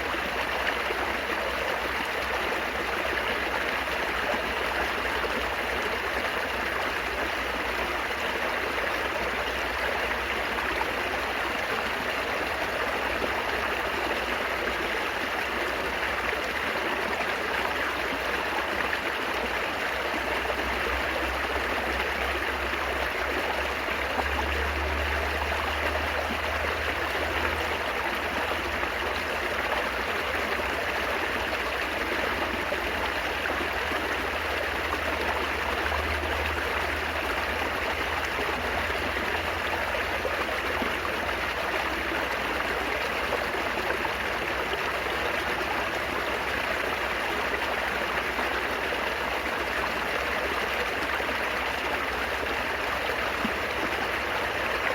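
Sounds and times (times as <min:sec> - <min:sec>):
water babbling and trickling: 0:00.0 - 0:54.9.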